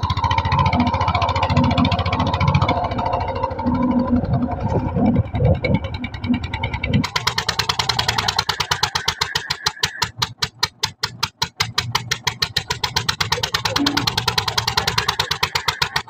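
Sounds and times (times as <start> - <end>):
diesel engine chugging: 0.0 - 16.0.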